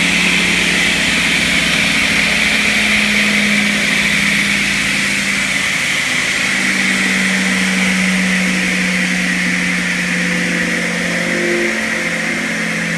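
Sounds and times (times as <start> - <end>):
electric motor humming: 0.0 - 12.9
saw blade whining: 0.0 - 12.9.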